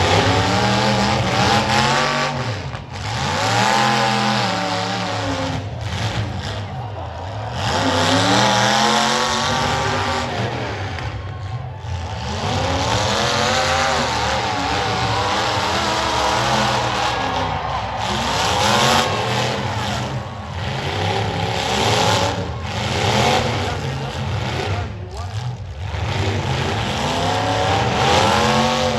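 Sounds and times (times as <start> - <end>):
car engines revving: 0.0 - 28.9.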